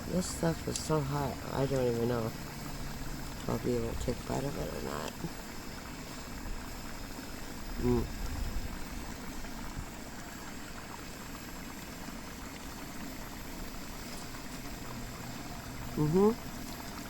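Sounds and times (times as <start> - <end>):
camp stove hissing: 0.0 - 17.0.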